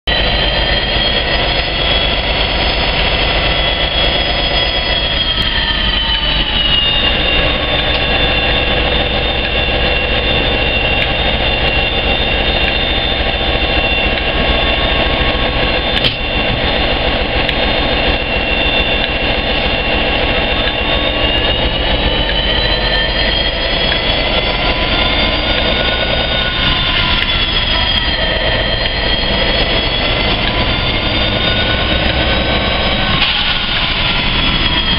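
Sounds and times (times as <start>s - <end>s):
high whine: 0.0s - 34.9s
trains idling low rumble: 0.0s - 34.9s.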